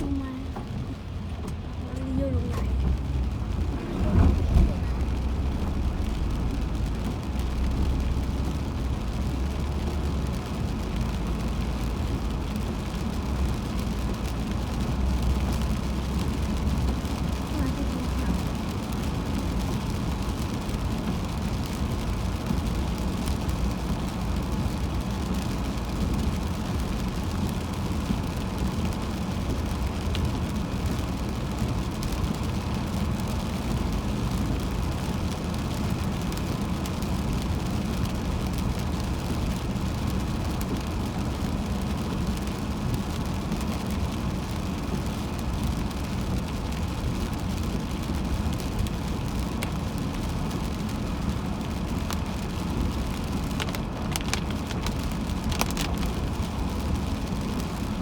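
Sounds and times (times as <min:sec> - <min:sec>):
car engine noise: 0:00.0 - 0:58.0
road and tyre rumble: 0:00.0 - 0:58.0.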